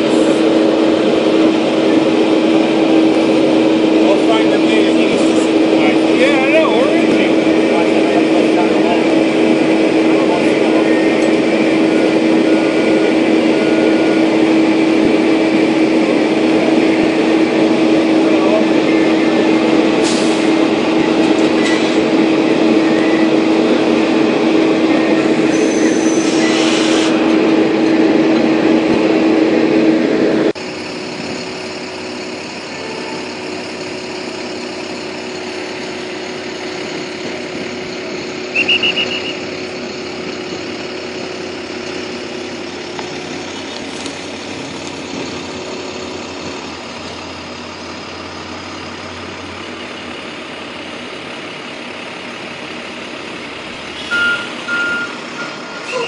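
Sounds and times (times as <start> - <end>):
heavy truck engine running: 0.0 - 56.0
street traffic: 0.0 - 56.0.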